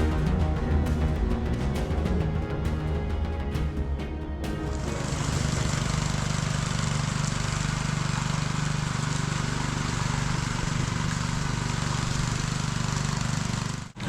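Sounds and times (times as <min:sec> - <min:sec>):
power trowel engine running: 0:00.0 - 0:14.0.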